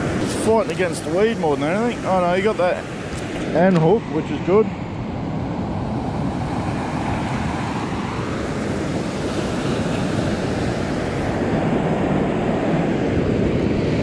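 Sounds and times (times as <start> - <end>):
surf washing on beach: 0.0 - 14.0
wind buffeting microphone: 0.0 - 14.0.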